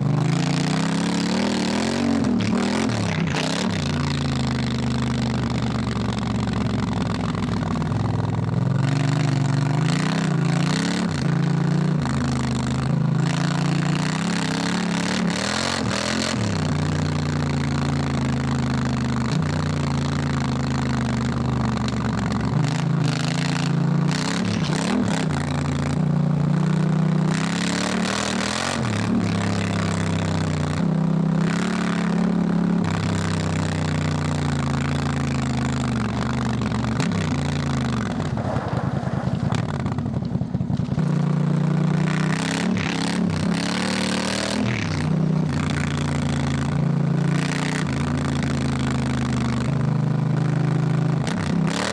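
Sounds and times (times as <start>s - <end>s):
motorcycle engine shifting gears: 0.0s - 51.9s.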